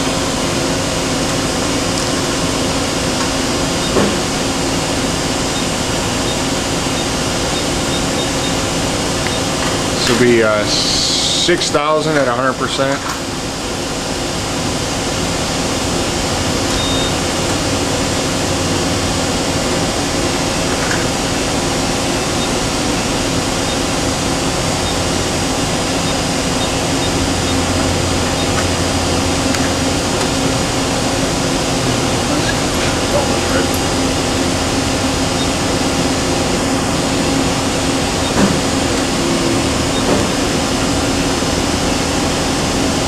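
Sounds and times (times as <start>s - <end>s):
machine spindle humming: 0.0s - 43.0s.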